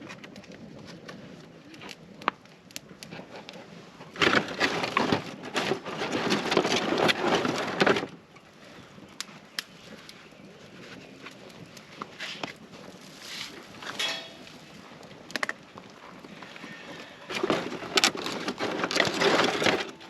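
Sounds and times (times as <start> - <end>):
dry wood cracking and splintering: 0.0 - 20.0.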